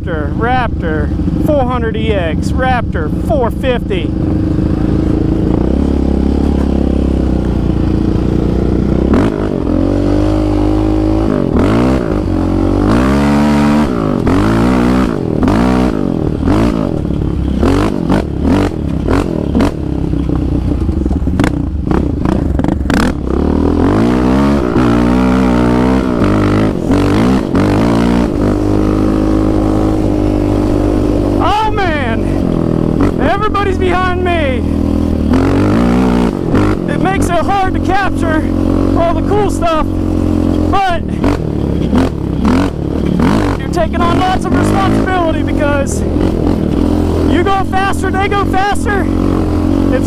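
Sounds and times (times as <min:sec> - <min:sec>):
quad engine revving: 0:00.0 - 0:50.0.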